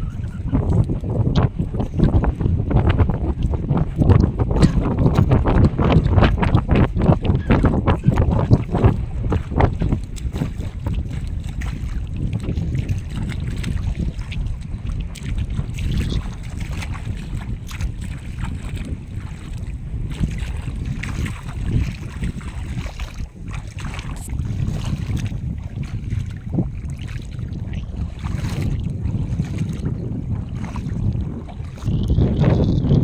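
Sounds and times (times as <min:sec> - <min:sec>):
moving seawater: 0:00.0 - 0:33.0
wind buffeting microphone: 0:00.0 - 0:33.0
small knocks and splashes: 0:04.1 - 0:29.9, 0:30.5 - 0:33.0.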